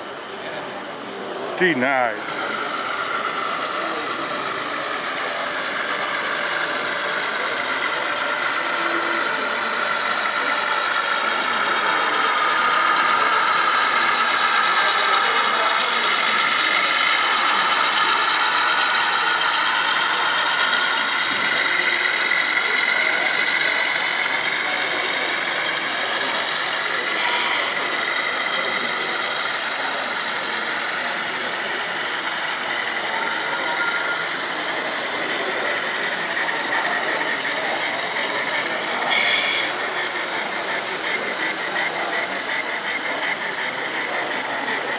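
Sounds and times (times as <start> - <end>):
model train motors whining: 0.0 - 44.9
wheels rolling on rails: 0.0 - 44.9.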